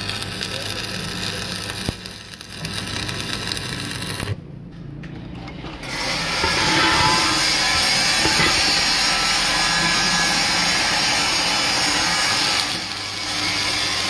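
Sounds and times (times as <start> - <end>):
arc welding crackle: 0.0 - 4.4, 5.8 - 14.0.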